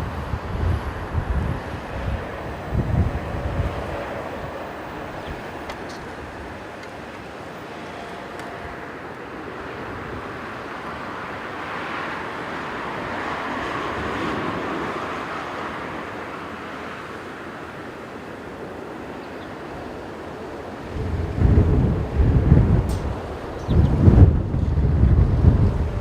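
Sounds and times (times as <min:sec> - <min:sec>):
jet airliner engine noise: 0:00.0 - 0:26.0
wind buffeting microphone: 0:00.0 - 0:26.0.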